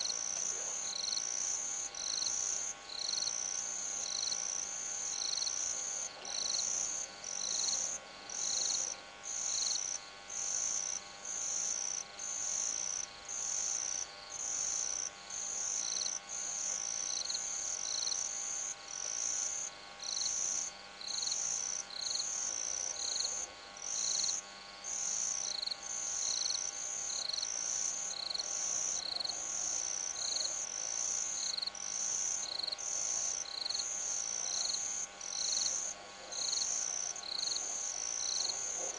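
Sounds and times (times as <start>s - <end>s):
cricket chirping: 0.0s - 38.9s
faint electrical hum: 0.0s - 38.9s.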